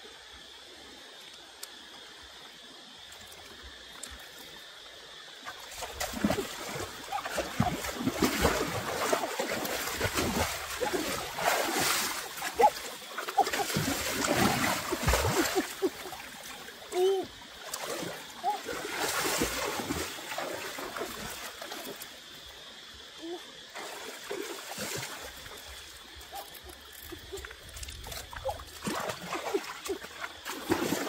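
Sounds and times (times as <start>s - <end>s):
faint running water: 0.0s - 31.0s
water splashing: 5.5s - 22.9s, 23.6s - 31.0s.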